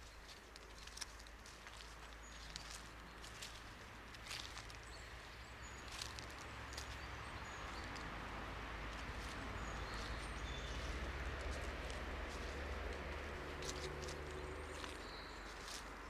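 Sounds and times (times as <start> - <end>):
footsteps on leafy road: 0.0 - 16.0.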